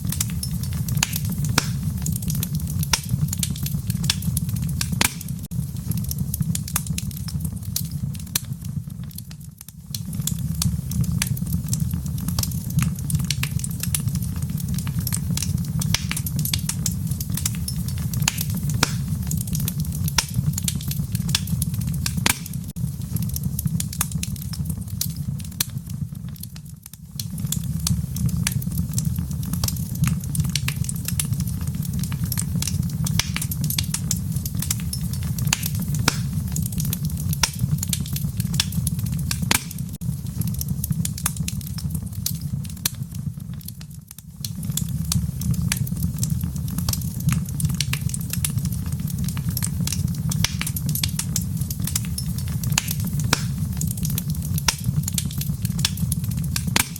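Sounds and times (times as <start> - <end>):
low rumble of flame: 0.0 - 56.9
wood fire crackling: 0.0 - 56.9.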